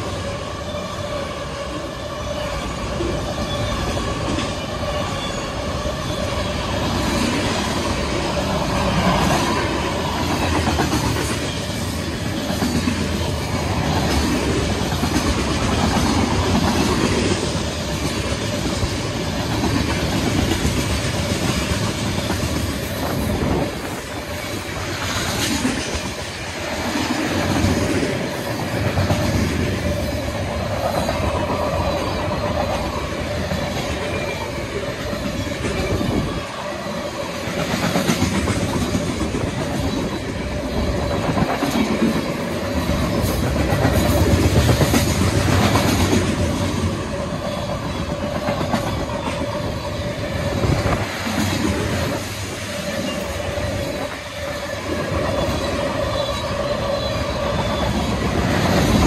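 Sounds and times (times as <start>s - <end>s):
train wheels rumbling on rail: 0.0s - 59.0s
rail clacks: 2.4s - 59.0s.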